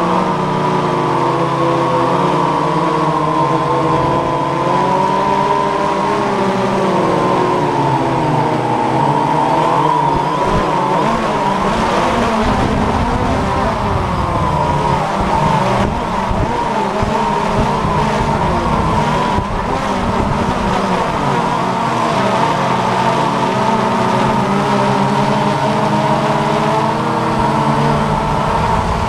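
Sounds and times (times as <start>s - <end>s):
drone propellers whining: 0.0s - 29.0s
wind rumble on microphone: 3.0s - 22.7s, 23.5s - 29.0s.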